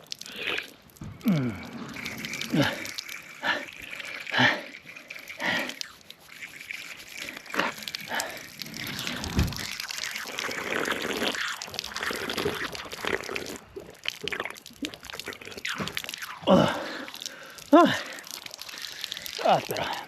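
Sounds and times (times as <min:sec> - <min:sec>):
person gulping water: 0:00.0 - 0:20.0.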